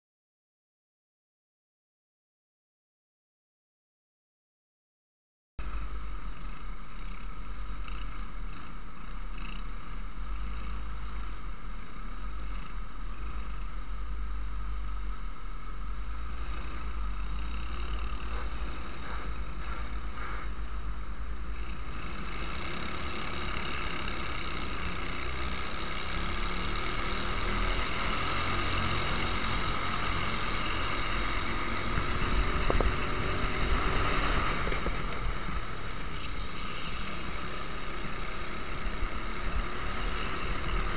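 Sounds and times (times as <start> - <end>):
racing kart engines droning: 5.6 - 40.9.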